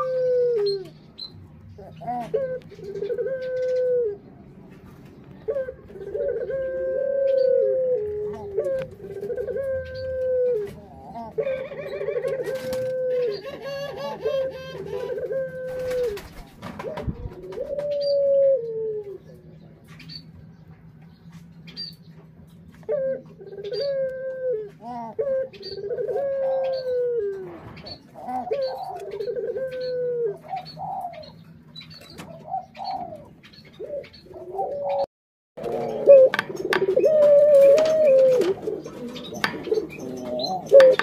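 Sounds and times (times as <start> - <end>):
doves cooing: 0.0 - 20.3, 21.8 - 41.0.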